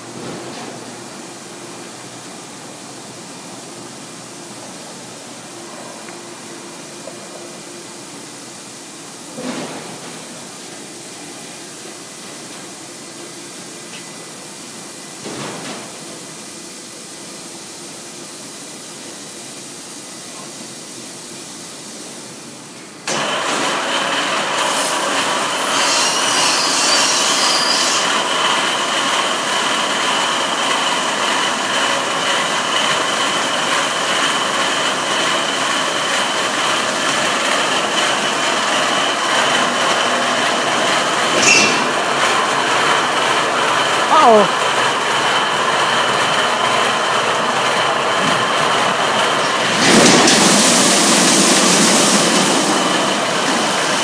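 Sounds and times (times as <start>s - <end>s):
car wash machinery hum: 0.0s - 54.0s.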